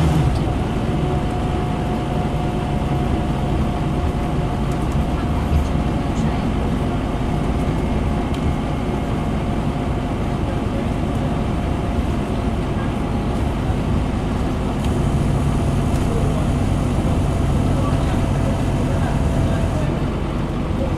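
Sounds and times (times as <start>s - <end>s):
bus diesel engine droning: 0.0s - 20.9s.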